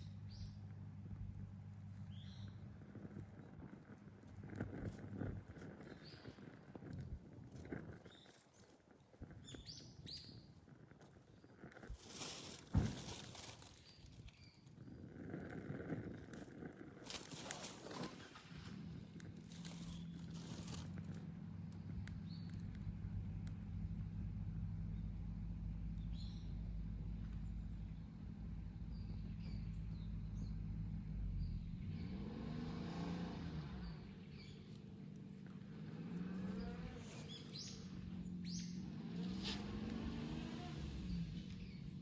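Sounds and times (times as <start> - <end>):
small birds chirping: 0.0 - 7.0, 7.6 - 42.0
campfire crackling: 0.0 - 32.1, 32.9 - 42.0.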